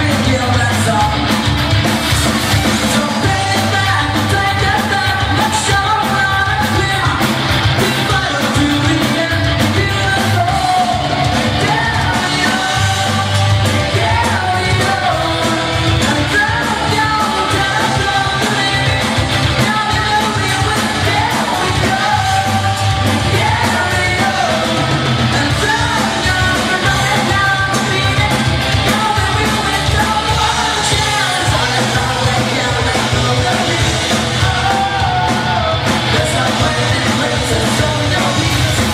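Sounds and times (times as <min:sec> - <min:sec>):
bass guitar: 0:00.0 - 0:38.9
drums: 0:00.0 - 0:38.9
electric guitar: 0:00.0 - 0:38.9
person singing: 0:02.6 - 0:38.9.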